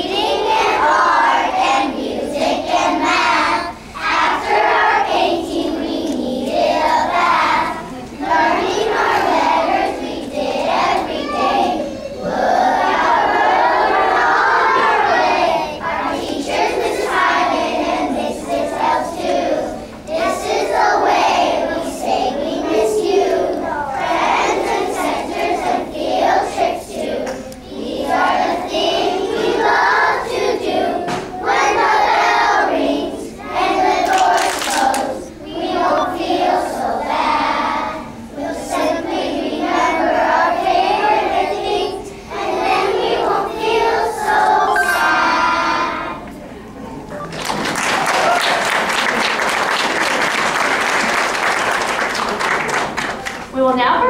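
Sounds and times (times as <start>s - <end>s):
children singing in unison: 0.0s - 46.4s.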